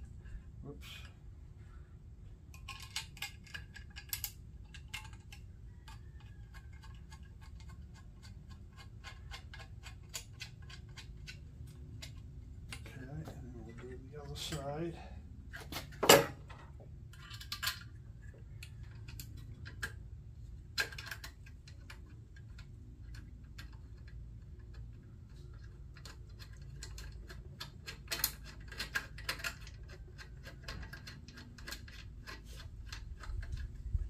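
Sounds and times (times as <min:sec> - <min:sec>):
steady low hum: 0:00.0 - 0:05.7, 0:10.4 - 0:34.0
small metal parts clinking: 0:02.5 - 0:12.9, 0:15.8 - 0:20.0, 0:20.7 - 0:34.0.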